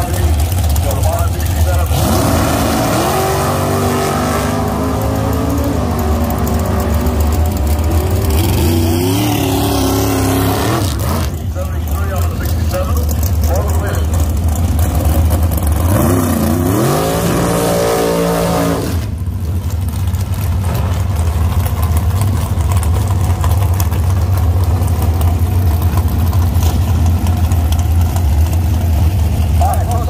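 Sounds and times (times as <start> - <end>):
car engine revving: 0.0 - 30.0
car engines rumbling: 0.0 - 30.0.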